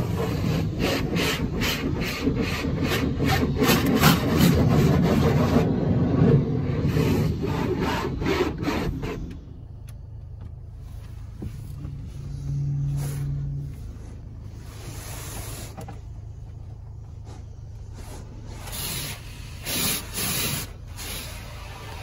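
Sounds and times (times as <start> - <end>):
hand scrubbing car: 0.0 - 10.1, 10.7 - 22.0
low rumble: 0.0 - 19.6.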